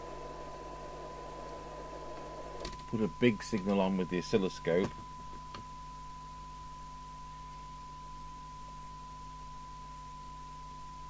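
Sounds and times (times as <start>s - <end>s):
faint low hum: 0.0s - 11.0s
steady test tone from loudspeaker: 0.0s - 11.0s.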